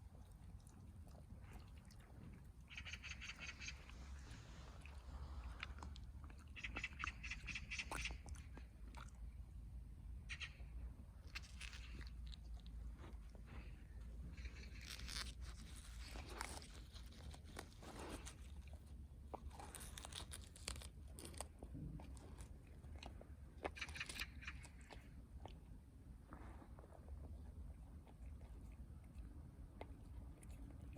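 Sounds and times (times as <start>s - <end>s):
dog chewing grass: 0.0s - 9.3s, 11.2s - 30.9s.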